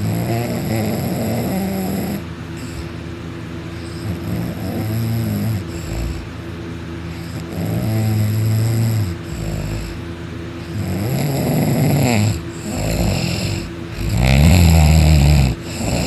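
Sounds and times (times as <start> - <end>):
person snoring: 0.0 - 3.0, 3.8 - 6.3, 7.1 - 10.0, 10.6 - 16.0.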